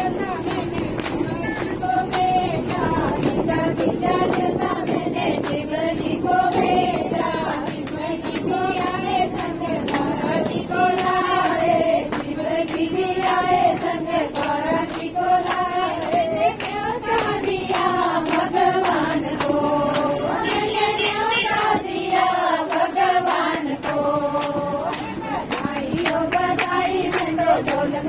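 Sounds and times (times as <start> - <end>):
rhythmic hand clapping: 0.0 - 28.0
women singing in unison: 0.0 - 28.0.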